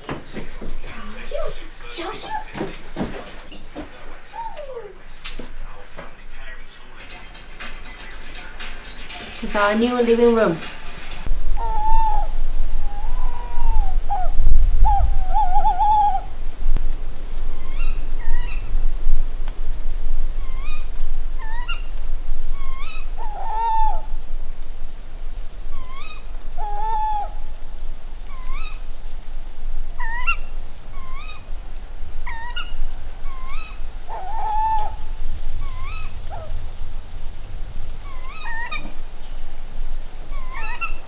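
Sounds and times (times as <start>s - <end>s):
owl hooting: 0.0s - 41.0s
owl sharp repeated calls: 0.0s - 41.0s.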